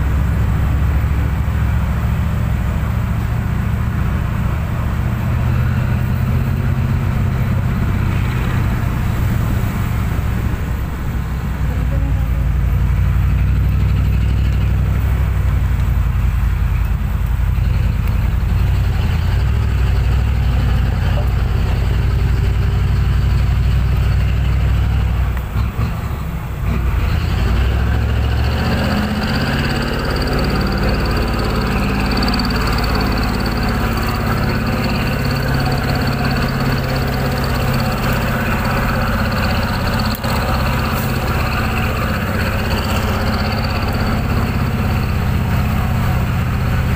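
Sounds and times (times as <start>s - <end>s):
brighter engine with high whine: 0.0s - 46.9s
truck diesel engine rumbling: 0.0s - 46.9s.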